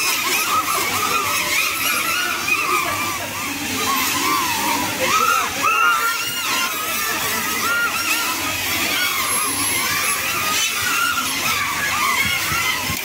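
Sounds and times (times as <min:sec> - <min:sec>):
quadcopter propellers whining: 0:00.0 - 0:13.0.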